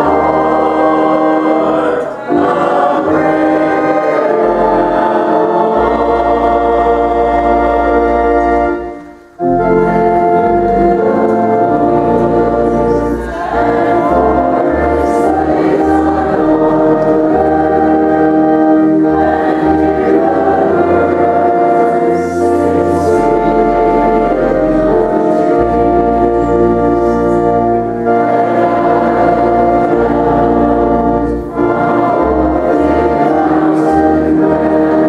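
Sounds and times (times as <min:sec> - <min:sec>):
organ accompaniment: 0:00.0 - 0:35.0
people singing a hymn: 0:00.0 - 0:35.0.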